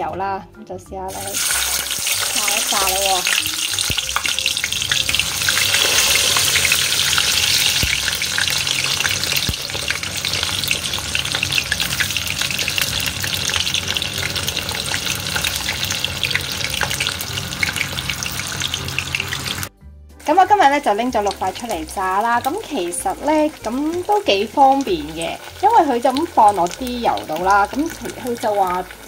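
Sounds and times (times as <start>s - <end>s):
deep-frying sizzling with crackles: 1.1s - 19.7s, 20.4s - 29.0s.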